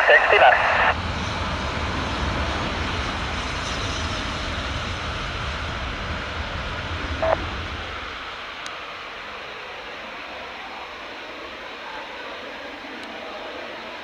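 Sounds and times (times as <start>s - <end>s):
distant jet engines rushing: 0.0s - 14.0s.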